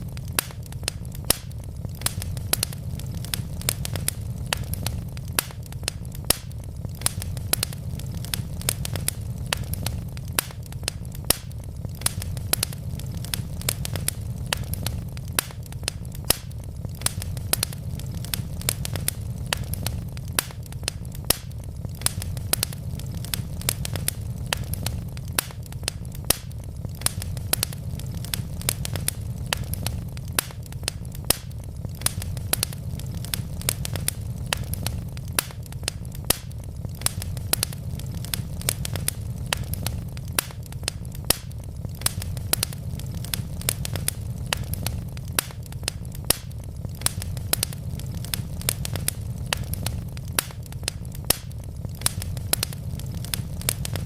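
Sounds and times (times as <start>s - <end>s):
sharp pops and snaps: 0.0s - 54.0s
wood fire crackling: 0.0s - 54.0s.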